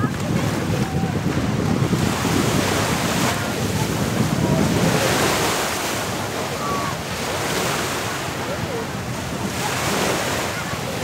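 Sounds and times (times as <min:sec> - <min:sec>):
waves washing up shore: 0:00.0 - 0:11.0
wind buffeting microphone: 0:00.0 - 0:11.0.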